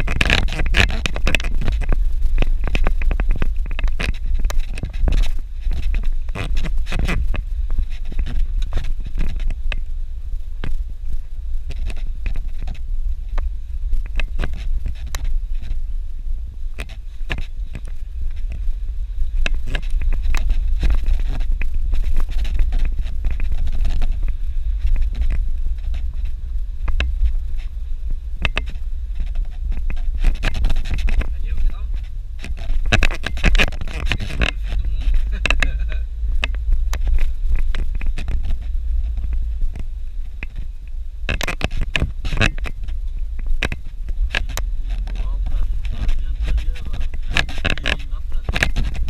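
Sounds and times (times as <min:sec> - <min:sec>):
vehicle low rumble: 0:00.0 - 0:49.0.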